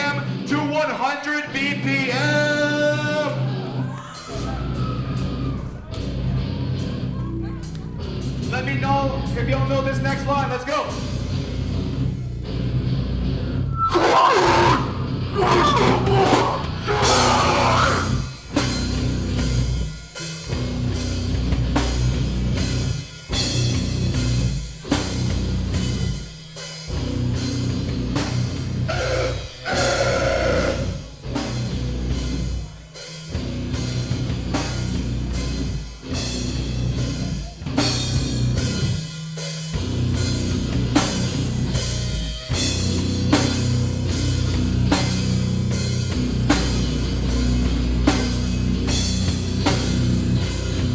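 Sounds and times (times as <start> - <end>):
heavy metal band playing: 0.0 - 50.9.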